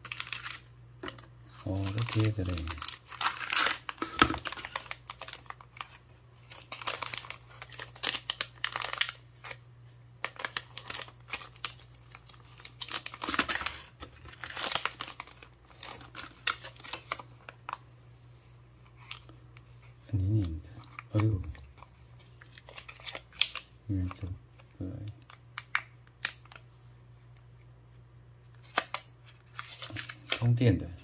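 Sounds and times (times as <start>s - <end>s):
packaging crinkling and rustling: 0.0s - 9.6s, 10.2s - 17.8s, 18.8s - 26.7s, 28.5s - 30.7s.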